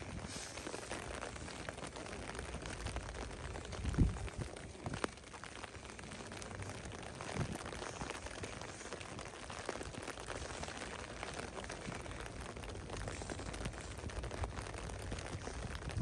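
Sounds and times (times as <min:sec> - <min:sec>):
footsteps on wet pavement: 0:00.0 - 0:16.0
steady rain: 0:00.0 - 0:16.0.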